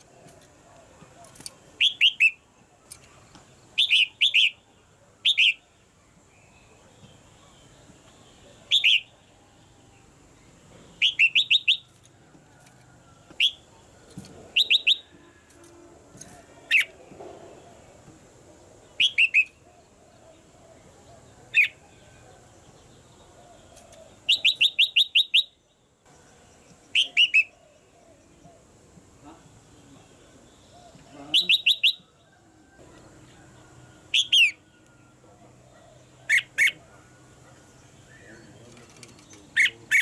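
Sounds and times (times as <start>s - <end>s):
bird chirping: 0.0s - 12.2s, 13.1s - 40.0s.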